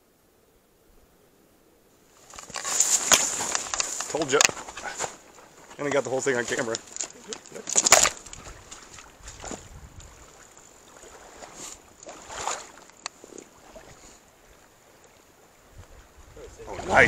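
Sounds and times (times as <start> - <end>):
river water splashing: 2.0 - 17.0.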